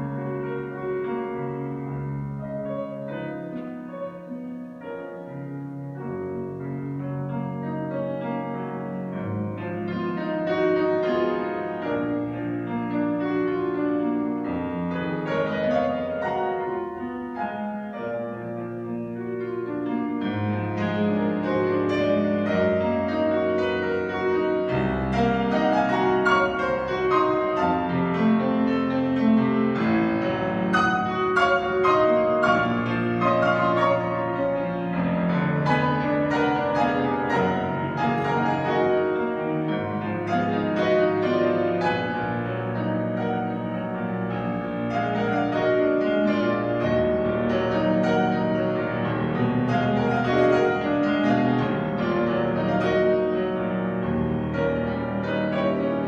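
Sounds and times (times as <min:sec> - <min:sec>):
classical piano music: 0:00.0 - 0:56.0.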